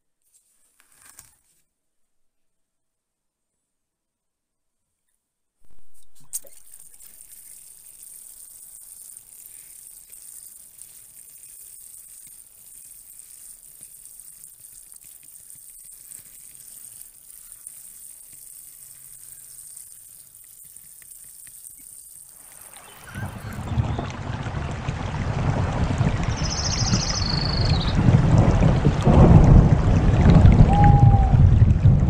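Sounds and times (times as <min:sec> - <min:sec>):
water spray on gravel: 0:05.6 - 0:31.3.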